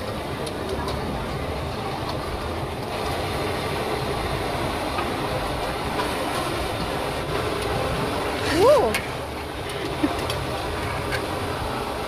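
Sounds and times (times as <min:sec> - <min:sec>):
busy market cooking stall din: 0:00.0 - 0:12.0.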